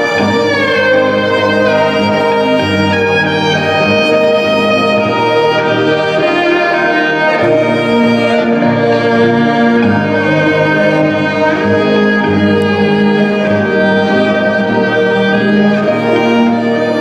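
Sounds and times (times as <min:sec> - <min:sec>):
violin long held notes: 0:00.0 - 0:17.0.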